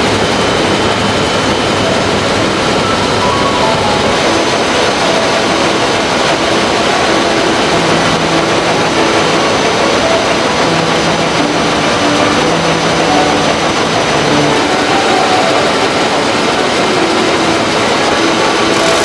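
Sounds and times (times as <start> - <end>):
weaving looms running: 0.0 - 19.0.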